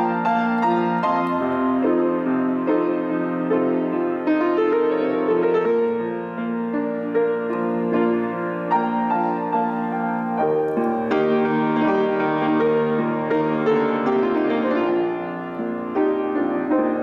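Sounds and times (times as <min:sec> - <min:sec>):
solo piano piece: 0:00.0 - 0:17.0.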